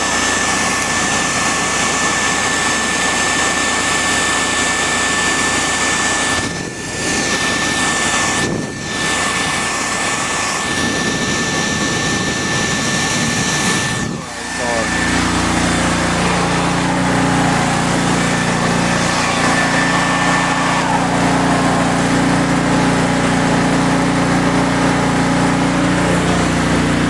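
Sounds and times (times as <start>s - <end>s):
machine whining: 0.0s - 27.0s.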